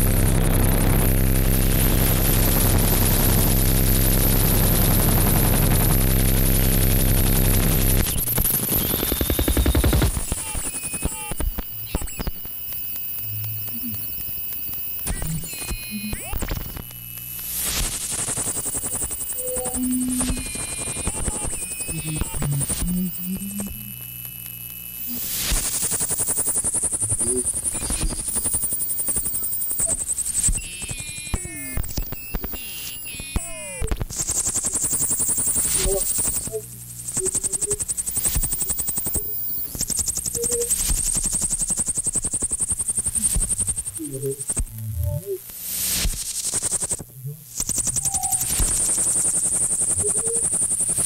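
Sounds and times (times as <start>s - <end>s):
scattered electronic clicks: 0.0s - 51.0s.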